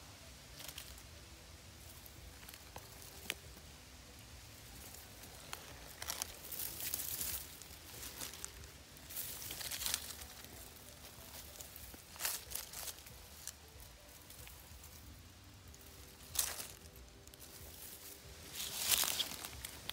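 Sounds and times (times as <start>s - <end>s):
dry leaves rustling: 0.0s - 19.9s.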